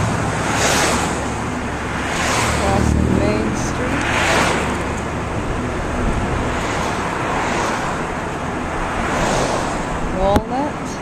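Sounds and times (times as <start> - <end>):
car road and tyre noise: 0.0 - 11.0
passing cars swishing: 0.0 - 11.0.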